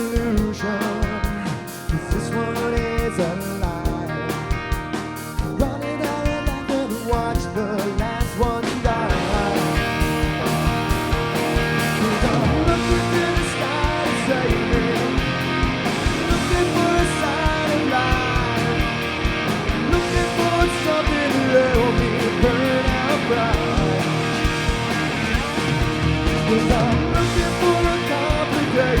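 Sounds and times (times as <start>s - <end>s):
person singing: 0.0s - 4.4s, 5.5s - 10.5s, 11.8s - 19.0s, 19.8s - 24.5s, 26.3s - 29.0s
bass guitar: 0.0s - 29.0s
drums with steady beat: 0.0s - 29.0s
electric guitars: 0.0s - 29.0s.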